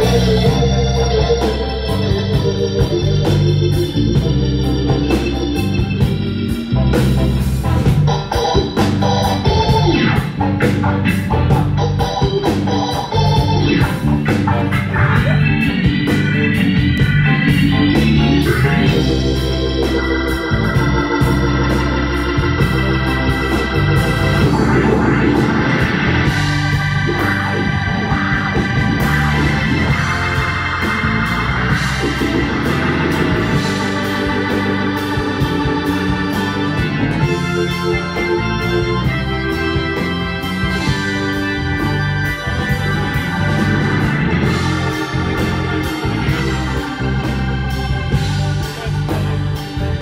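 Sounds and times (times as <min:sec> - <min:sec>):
drums: 0:00.0 - 0:50.0
electric bass: 0:00.0 - 0:50.0
electric guitar: 0:00.0 - 0:50.0
organ chords: 0:00.0 - 0:50.0.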